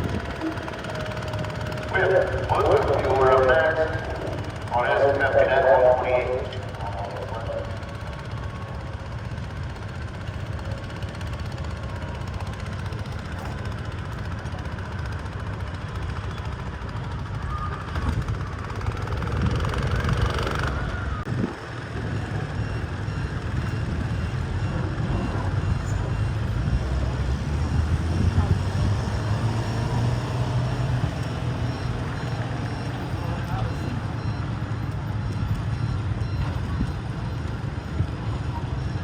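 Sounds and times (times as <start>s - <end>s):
tractor engine running hard: 0.0s - 39.0s.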